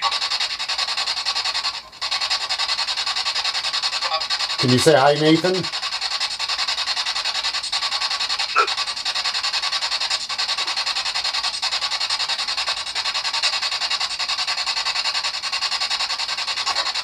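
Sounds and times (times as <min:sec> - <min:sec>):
fast-chopping radio static hiss: 0:00.0 - 0:17.0.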